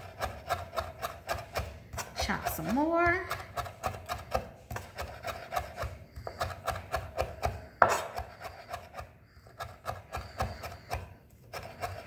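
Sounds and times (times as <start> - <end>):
knife chopping on wooden board: 0.0 - 12.0.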